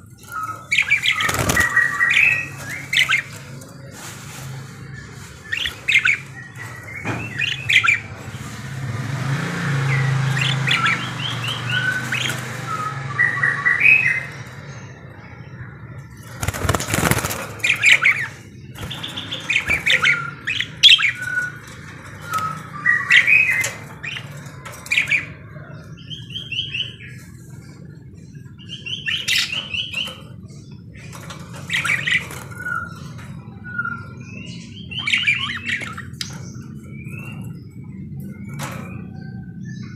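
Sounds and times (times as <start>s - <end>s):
budgerigars chattering and warbling: 0.0s - 8.8s, 9.8s - 39.9s.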